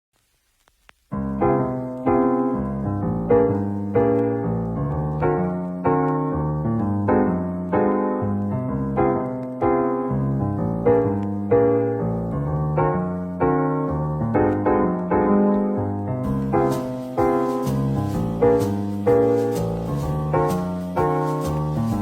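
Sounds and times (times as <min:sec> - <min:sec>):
soft piano chords: 0:01.1 - 0:22.0.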